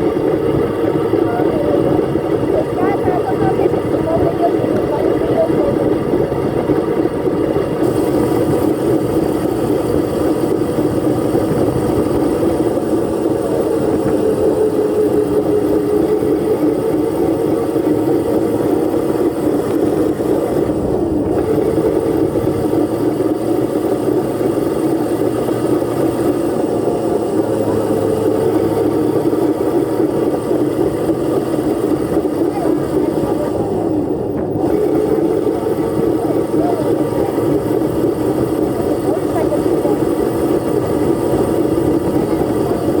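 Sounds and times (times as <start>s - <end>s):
dirt bike engine running: 0.0s - 43.0s.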